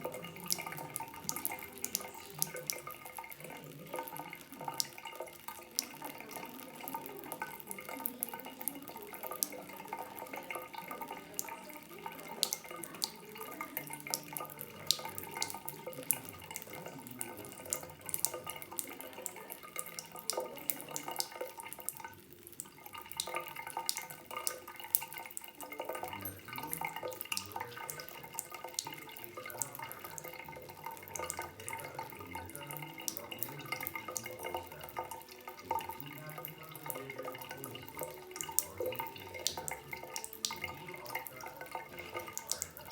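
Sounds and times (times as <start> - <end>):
cat lapping water: 0.0 - 42.9
tap water running into basin: 0.0 - 42.9.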